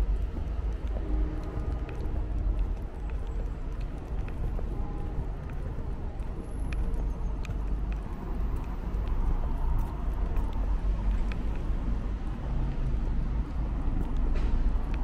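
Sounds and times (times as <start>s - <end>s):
footsteps on stone paving: 0.0s - 15.0s
road traffic: 0.0s - 15.0s.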